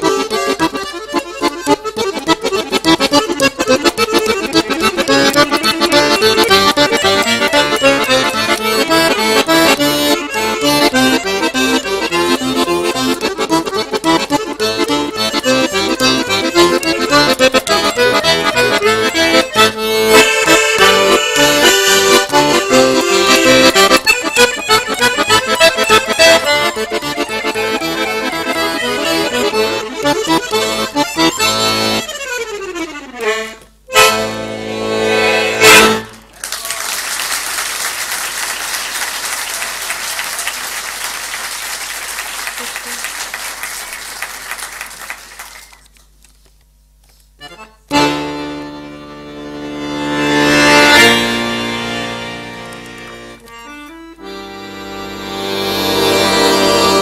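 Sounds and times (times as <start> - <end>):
piano accordion playing fast: 0.0 - 36.2, 38.0 - 45.8, 47.4 - 57.0.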